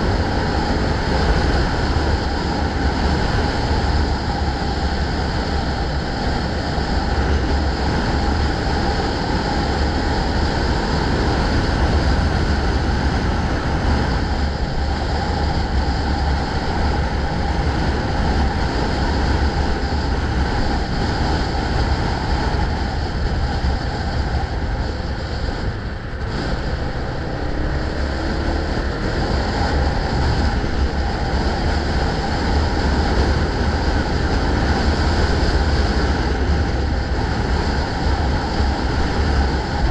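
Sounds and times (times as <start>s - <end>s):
road and traffic noise: 0.0s - 39.9s
wind rumble on microphone: 0.0s - 39.9s.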